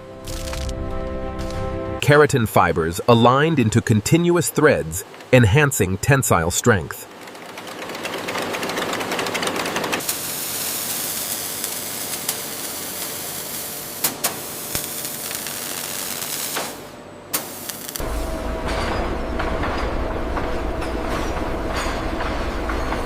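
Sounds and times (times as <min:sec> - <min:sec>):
factory machinery running: 0:00.0 - 0:23.0.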